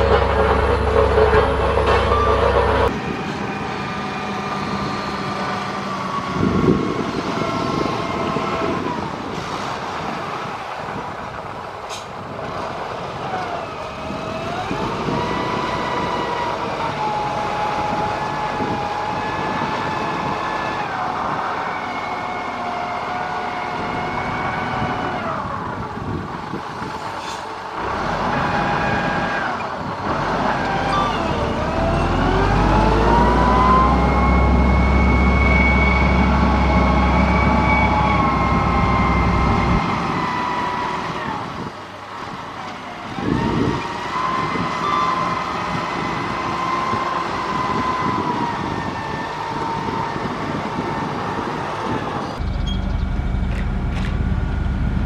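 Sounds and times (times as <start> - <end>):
engine whine: 0.0 - 55.0
heavy diesel engine working: 0.0 - 55.0.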